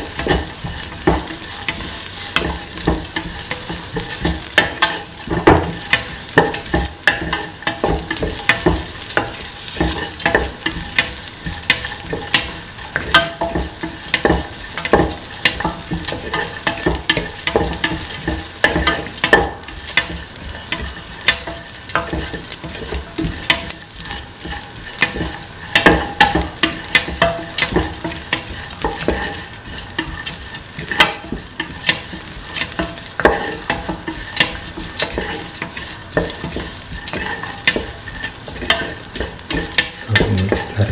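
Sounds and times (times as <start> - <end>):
onions sizzling in hot oil: 0.0 - 40.9
utensil scraping metal pan: 0.1 - 40.9.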